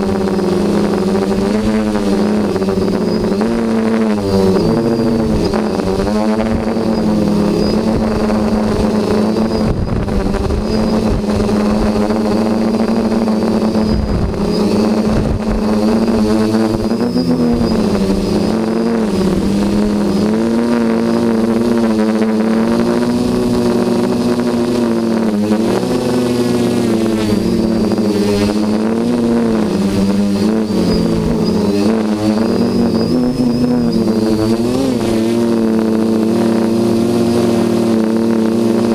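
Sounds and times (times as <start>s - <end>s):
quadcopter propellers buzzing: 0.0s - 38.9s
wind rumbling on microphone: 0.0s - 38.9s.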